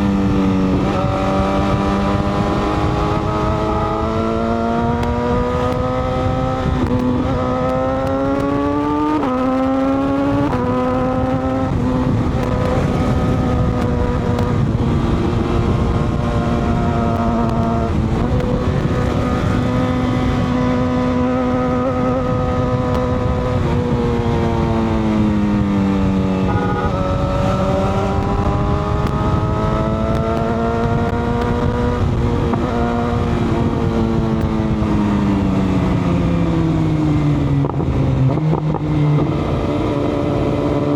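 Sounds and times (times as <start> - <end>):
motorcycle engine: 0.0 - 40.9
steady rushing noise: 0.0 - 40.9.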